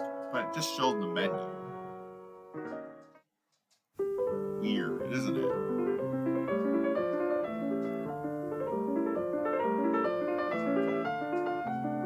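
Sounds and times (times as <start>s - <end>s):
solo piano music: 0.0s - 3.3s, 4.0s - 12.0s.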